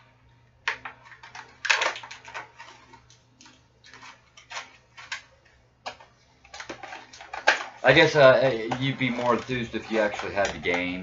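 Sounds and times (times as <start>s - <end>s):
packaging clicks taps and rustles: 0.7s - 11.0s.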